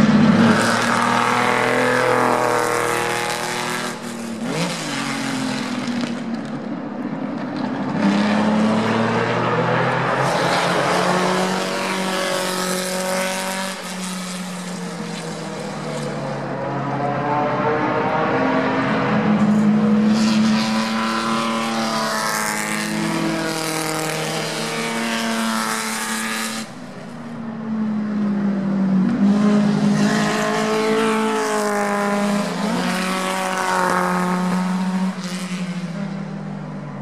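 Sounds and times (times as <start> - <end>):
racing car engines accelerating: 0.0 - 37.0.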